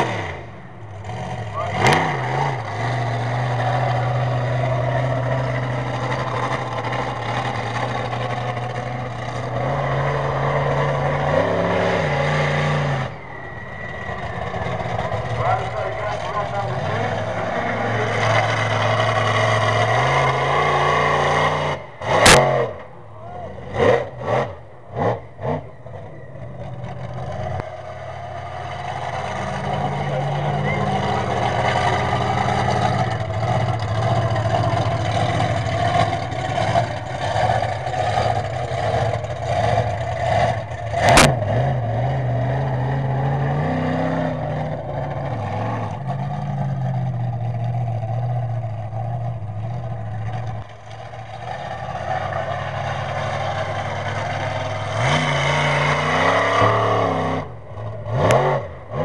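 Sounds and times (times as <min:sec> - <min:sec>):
monster truck engine running: 0:00.0 - 0:59.0.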